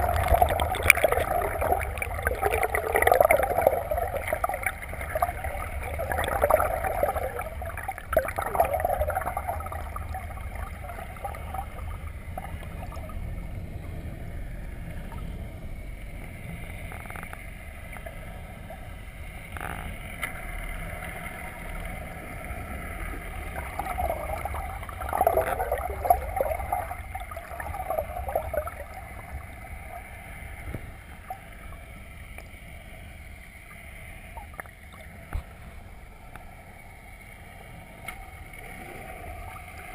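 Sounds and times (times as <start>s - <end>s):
water gurgling: 0.0s - 15.6s, 16.4s - 39.9s
muffled underwater rumble: 0.0s - 39.9s.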